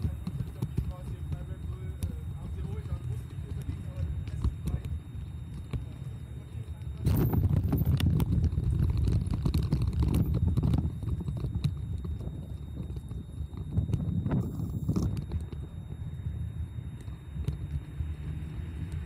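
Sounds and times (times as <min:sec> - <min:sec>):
bicycle rumbling over cobblestones: 0:00.0 - 0:19.0.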